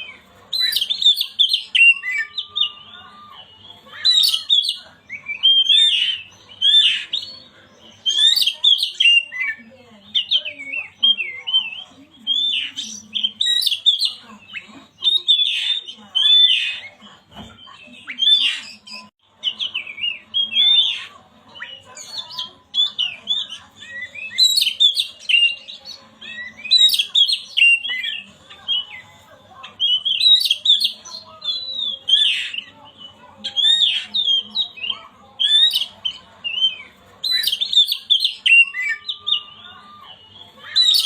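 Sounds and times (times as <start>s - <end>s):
bird singing varied notes: 0.0s - 41.0s.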